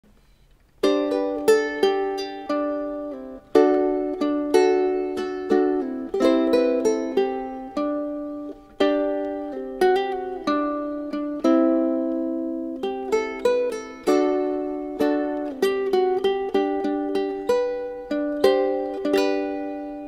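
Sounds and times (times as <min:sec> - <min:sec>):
ukulele fingerstyle: 0:00.2 - 0:20.0.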